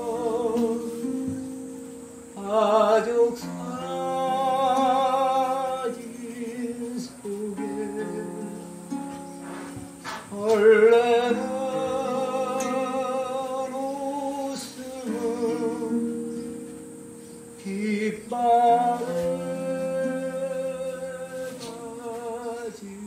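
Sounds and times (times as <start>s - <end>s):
acoustic guitar: 0.0s - 23.0s
man singing slow song: 0.0s - 23.0s.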